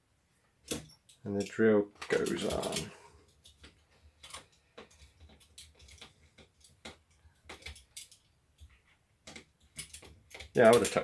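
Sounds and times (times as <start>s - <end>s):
light clicks of plastic parts: 0.6s - 11.0s.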